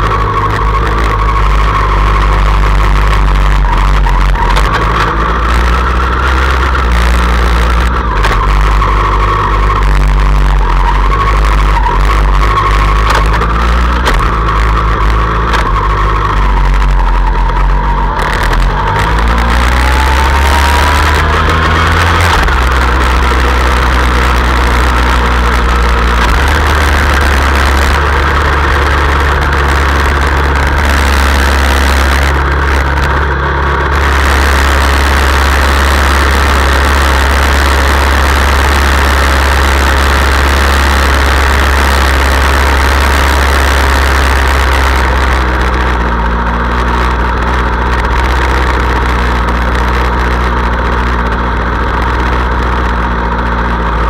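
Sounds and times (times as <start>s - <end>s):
motorcycle engine at low revs: 0.0s - 54.0s
thin rising whine: 0.0s - 54.0s.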